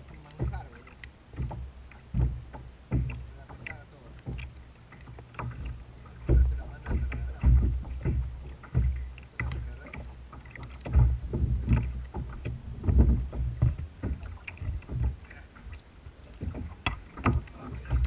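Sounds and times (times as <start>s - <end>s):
water slapping kayak hull: 0.0s - 18.0s.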